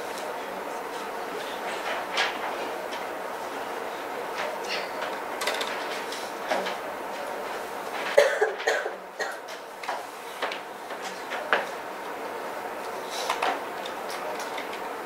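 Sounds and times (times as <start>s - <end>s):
room noise: 0.0s - 15.0s.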